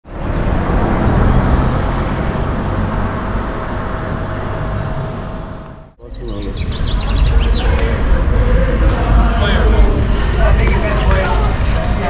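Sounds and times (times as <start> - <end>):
rumbling road traffic: 0.0 - 12.0.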